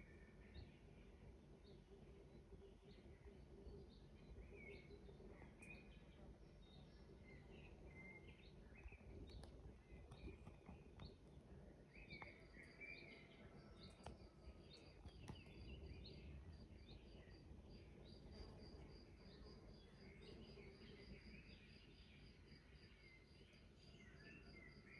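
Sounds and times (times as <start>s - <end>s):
birds chirping: 0.0s - 21.6s
low background rumble: 0.0s - 22.3s.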